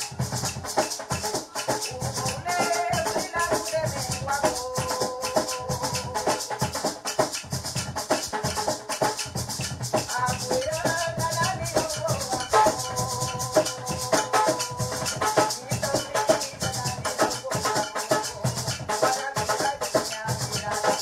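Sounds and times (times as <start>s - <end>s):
hand drums: 0.0s - 21.0s
maracas shaking: 0.0s - 21.0s.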